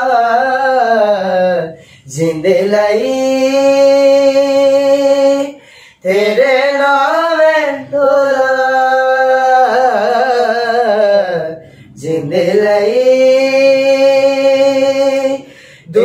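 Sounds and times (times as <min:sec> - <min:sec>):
two men singing a cappella: 0:00.0 - 0:16.0.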